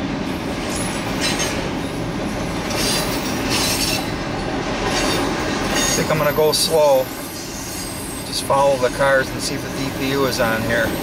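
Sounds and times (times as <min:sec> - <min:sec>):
train wheels rumbling and clicking: 0:00.0 - 0:11.0
train wheel squeals: 0:00.7 - 0:02.0, 0:02.7 - 0:11.0.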